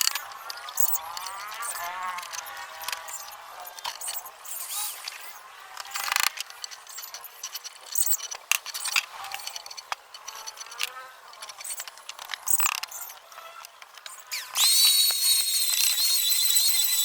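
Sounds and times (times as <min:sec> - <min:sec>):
small hard objects clicking: 0:00.0 - 0:04.3, 0:05.8 - 0:17.0.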